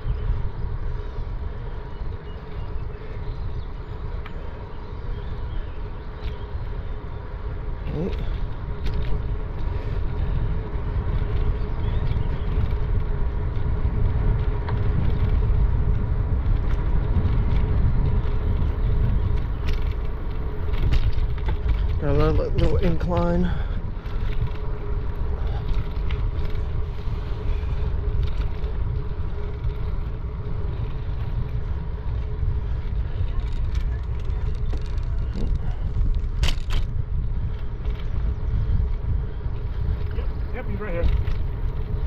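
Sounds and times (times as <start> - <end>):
wind rumble on microphone: 0.0 - 42.0.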